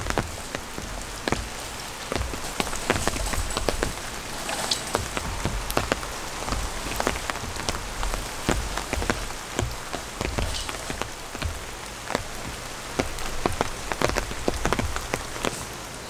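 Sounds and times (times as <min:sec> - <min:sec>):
raindrops tapping a surface: 0:00.0 - 0:16.0
steady rain hiss: 0:00.0 - 0:16.0.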